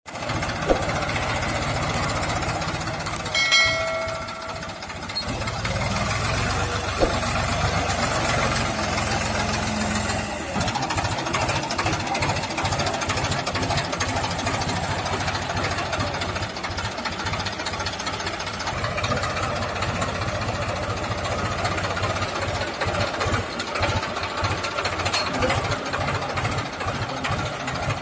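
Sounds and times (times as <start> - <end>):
tractor diesel engine throbbing: 0.1 - 28.0.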